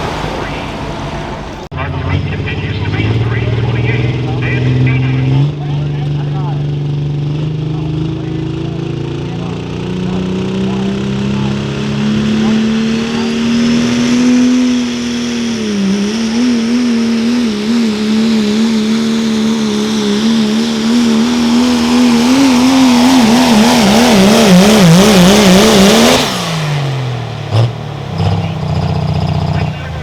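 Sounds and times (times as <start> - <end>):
diesel truck engine revving: 0.0 - 30.0.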